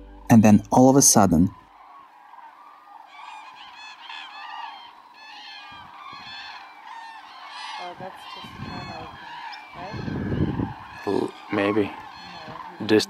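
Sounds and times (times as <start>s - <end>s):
distant flock of birds calling: 0.0s - 13.0s.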